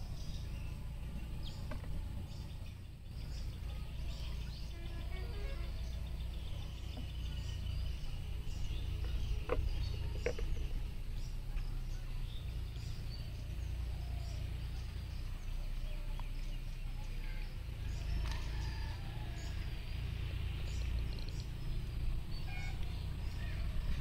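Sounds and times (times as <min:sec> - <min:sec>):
faint bird chirps: 0:00.0 - 0:24.0
steady low rumble: 0:00.0 - 0:24.0.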